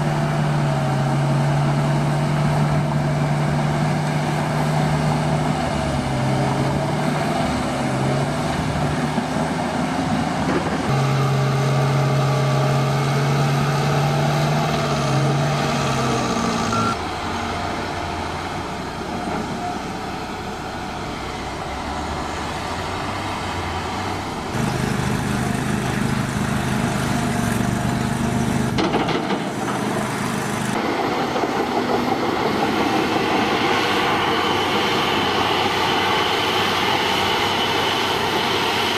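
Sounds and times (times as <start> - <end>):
heavy diesel engines under load: 0.0 - 38.9.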